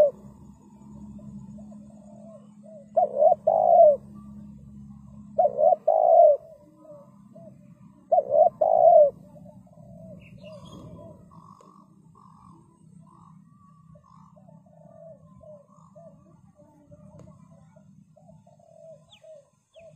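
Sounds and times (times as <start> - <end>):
dove cooing: 0.0 - 19.9.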